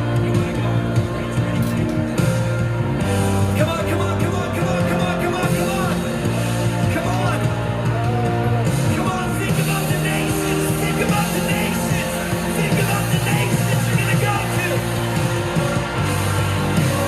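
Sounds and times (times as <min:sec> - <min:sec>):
band playing worship music: 0:00.0 - 0:17.0.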